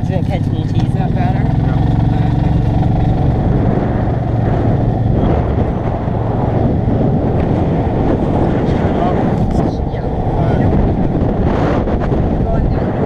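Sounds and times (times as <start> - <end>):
golf cart rumbling on paved road: 0.0 - 13.0
wind buffeting microphone: 0.0 - 13.0.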